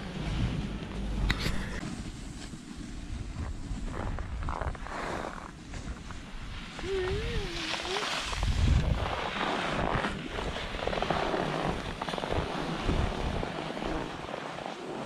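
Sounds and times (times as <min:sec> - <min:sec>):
skis scraping over snow: 0:00.0 - 0:15.0
wind rumbling on microphone: 0:00.0 - 0:15.0.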